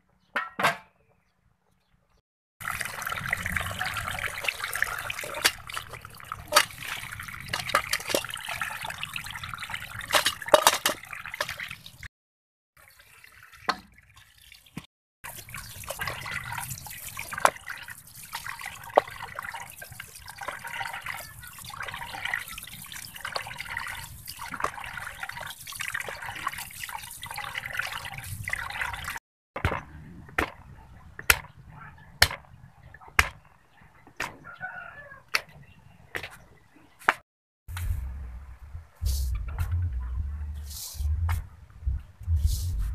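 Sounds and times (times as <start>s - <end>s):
water sloshing and trickling: 2.6s - 12.1s, 12.8s - 41.4s.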